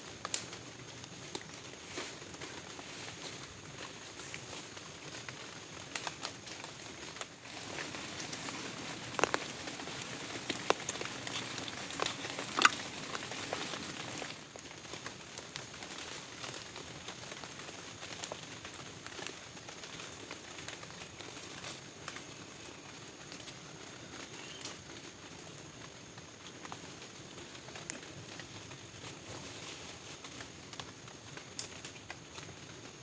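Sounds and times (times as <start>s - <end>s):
heavy rain falling: 0.1s - 33.0s
sharp taps of raindrops: 3.8s - 22.6s, 24.2s - 33.0s.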